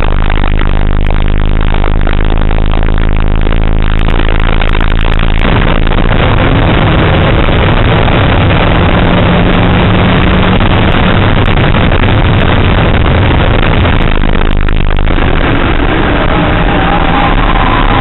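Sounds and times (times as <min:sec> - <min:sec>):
car engine at high revs: 0:00.0 - 0:18.0
road and wind noise: 0:00.0 - 0:18.0.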